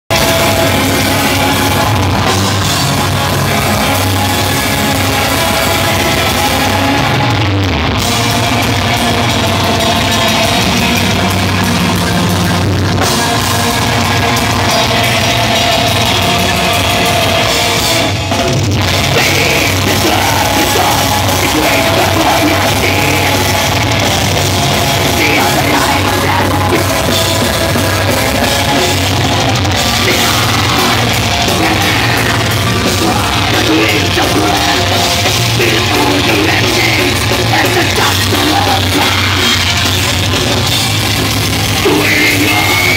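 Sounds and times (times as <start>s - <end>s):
distorted guitars: 0.0s - 42.9s
drum kit: 0.0s - 42.9s
harsh yelled vocals: 0.1s - 42.9s.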